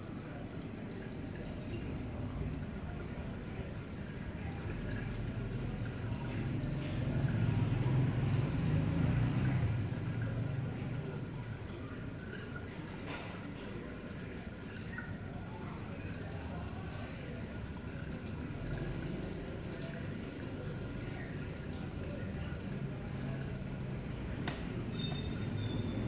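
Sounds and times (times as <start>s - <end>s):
water running and trickling: 0.0s - 26.0s.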